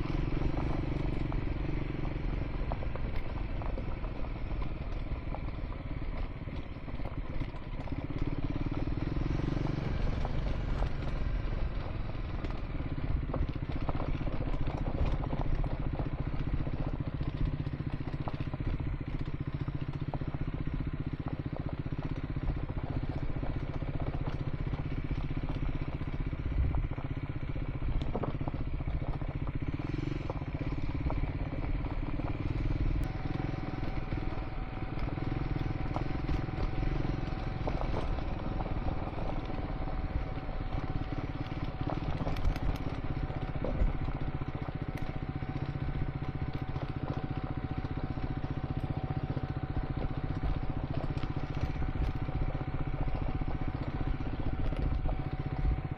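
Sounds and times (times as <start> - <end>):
motorcycle engine running: 0.0 - 55.9
small ticks and clatter: 0.0 - 55.9.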